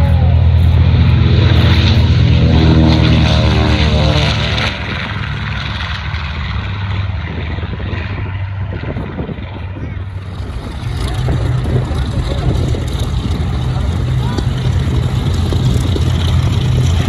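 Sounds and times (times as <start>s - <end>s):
propeller plane taking off: 0.0s - 17.0s.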